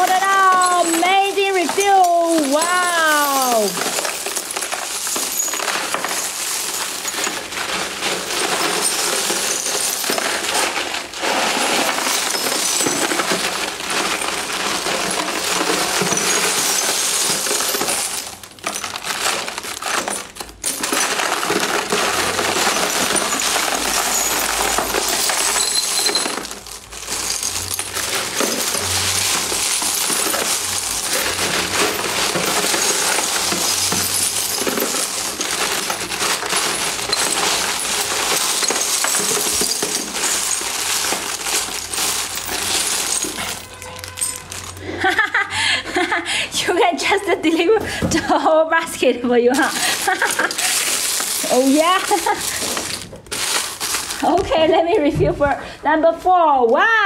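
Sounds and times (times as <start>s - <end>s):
crystal stones clattering: 0.0s - 45.3s, 49.5s - 54.9s.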